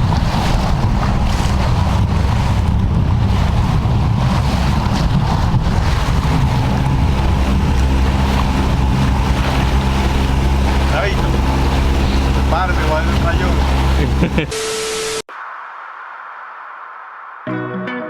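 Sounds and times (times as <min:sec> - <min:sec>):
wind buffeting microphone: 0:00.0 - 0:14.5
boat engine running: 0:00.0 - 0:15.2.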